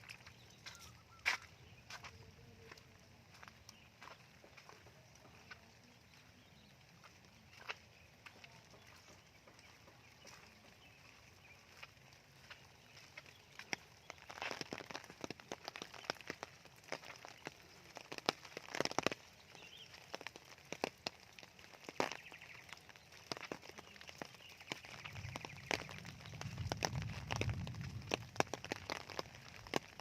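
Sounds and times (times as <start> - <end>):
faint rain hiss: 0.0 - 30.0
raindrops ticking on hard surface: 0.0 - 30.0.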